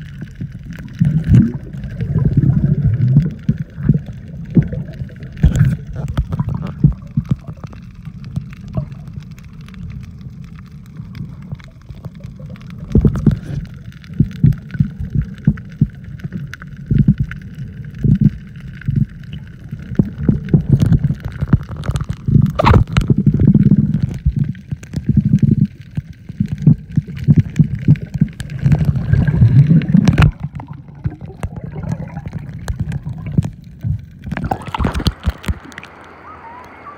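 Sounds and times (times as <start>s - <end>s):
underwater water gurgling: 0.0s - 36.9s.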